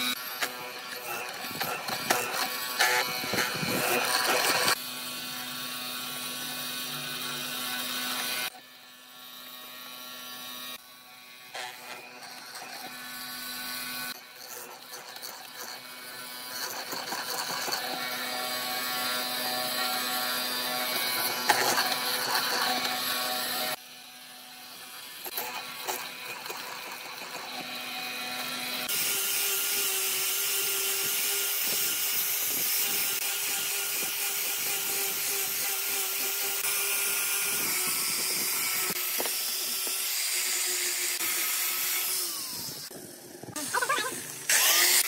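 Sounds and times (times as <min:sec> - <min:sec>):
mortiser motor hum: 0:00.0 - 0:45.0.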